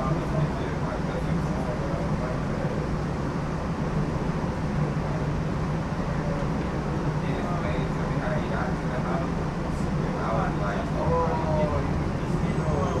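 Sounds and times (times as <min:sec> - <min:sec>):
streetcar motors and wheels rumbling: 0:00.0 - 0:13.0.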